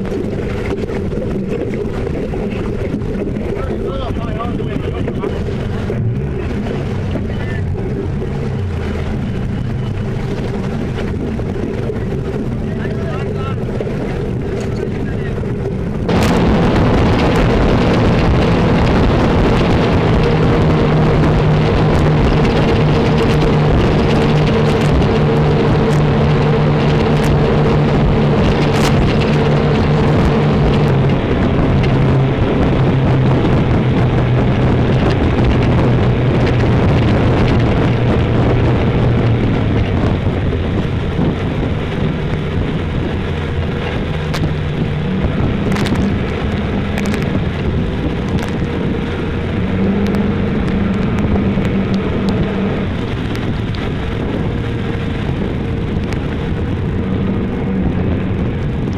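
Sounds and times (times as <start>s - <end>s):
outboard engines running: 0.0s - 58.9s
water spray and hull slap: 0.0s - 58.9s
wind rushing: 0.0s - 58.9s.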